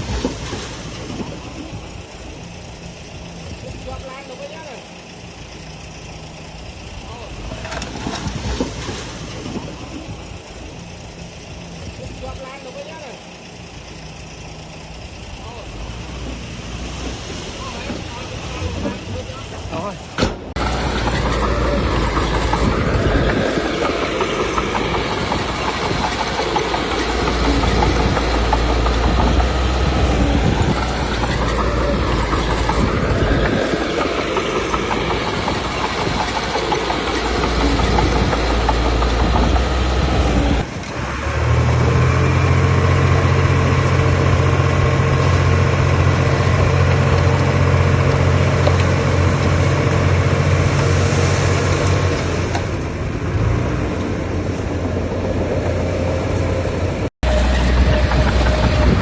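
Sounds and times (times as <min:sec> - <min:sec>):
diesel engine of heavy machinery: 0:00.0 - 0:59.0
steady engine hum: 0:00.0 - 0:59.0.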